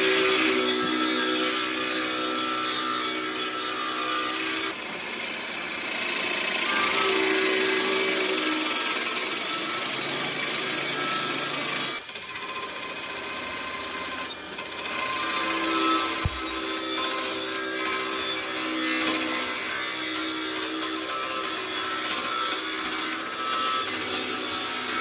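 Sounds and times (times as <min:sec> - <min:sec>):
power tool cutting wood: 0:00.0 - 0:25.0.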